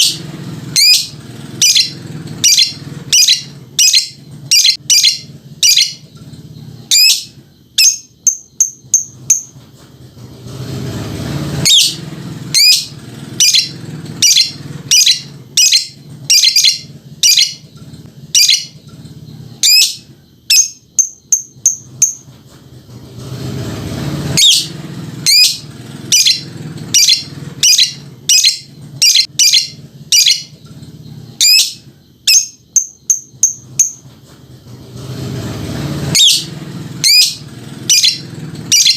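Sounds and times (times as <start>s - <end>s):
lovebird chirping: 0.0s - 9.5s, 11.6s - 22.2s, 24.4s - 34.0s, 36.1s - 38.9s.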